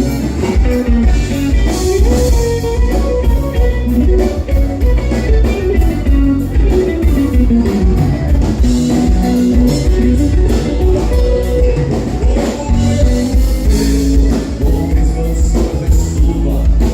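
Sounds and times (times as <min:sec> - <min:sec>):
bass line: 0:00.0 - 0:16.9
drum kit: 0:00.0 - 0:16.9
guitar: 0:00.0 - 0:16.9.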